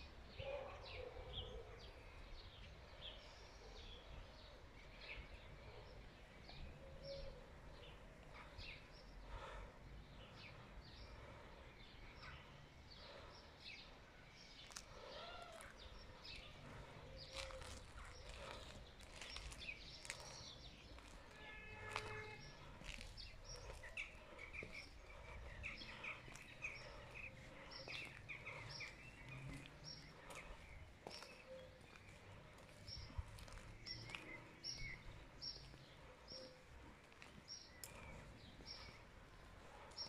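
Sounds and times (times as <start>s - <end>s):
small birds chirping: 0.3s - 40.0s.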